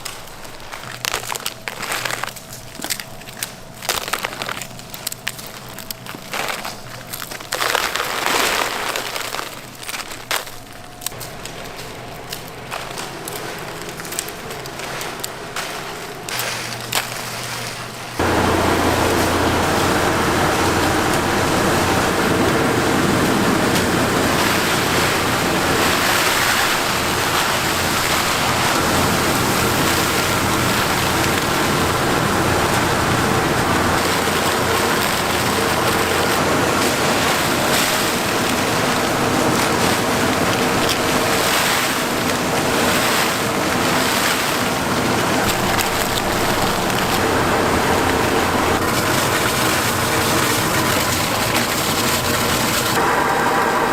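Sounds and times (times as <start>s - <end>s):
faint steady hums: 0.0s - 53.9s
gas burners and extractor roaring: 0.0s - 53.9s.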